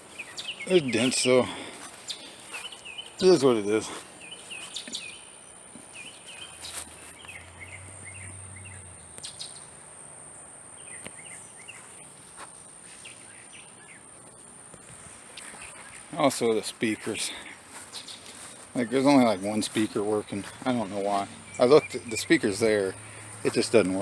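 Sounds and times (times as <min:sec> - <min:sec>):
songbird chirping: 0:00.0 - 0:24.0.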